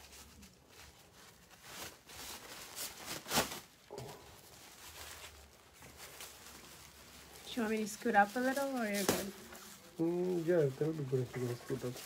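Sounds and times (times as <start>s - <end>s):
plastic drape rustling: 0.0s - 12.0s.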